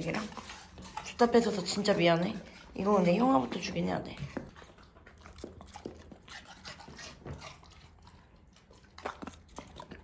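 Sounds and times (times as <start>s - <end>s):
dog eating with clicks and snuffles: 0.0s - 10.0s.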